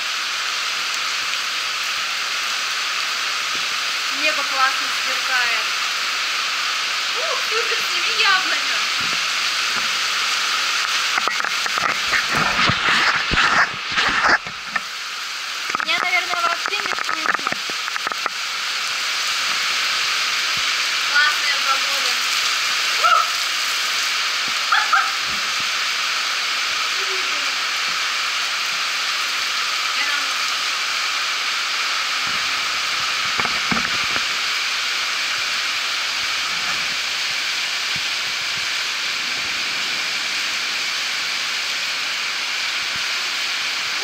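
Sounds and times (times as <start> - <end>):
rain pouring: 0.0 - 44.0.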